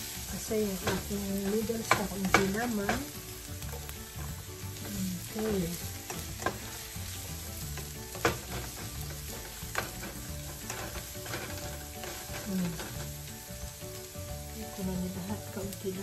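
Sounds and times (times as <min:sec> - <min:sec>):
spatula scraping pan: 0:00.0 - 0:15.7
food sizzling in frying pan: 0:00.0 - 0:16.0.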